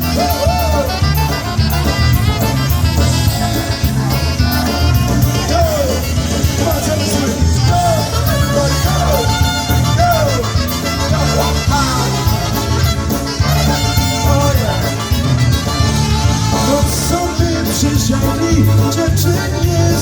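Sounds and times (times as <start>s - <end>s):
polka band playing: 0.0s - 20.0s.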